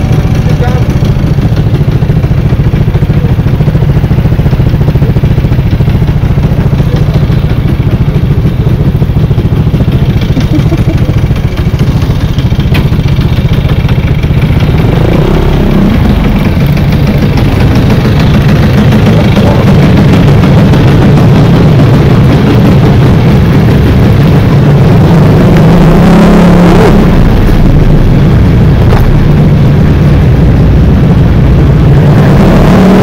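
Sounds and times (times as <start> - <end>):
scooter engine running: 0.0 - 33.0.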